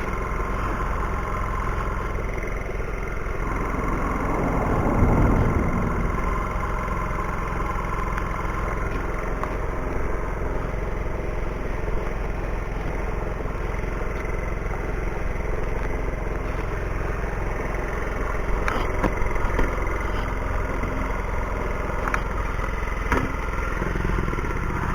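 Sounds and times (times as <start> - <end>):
car engine and road noise: 0.0 - 24.9.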